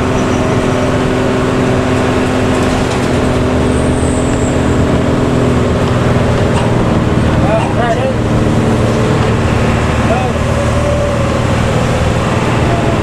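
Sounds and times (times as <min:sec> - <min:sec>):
bus engine and exhaust drone: 0:00.0 - 0:13.0
road rumble: 0:00.0 - 0:13.0.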